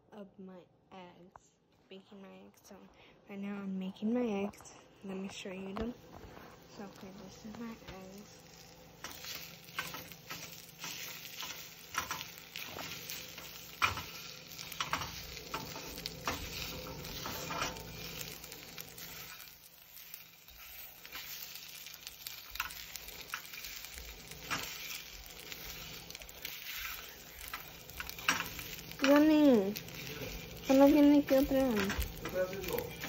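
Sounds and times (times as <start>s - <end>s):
eggs sizzling in frying pan: 5.5s - 33.0s.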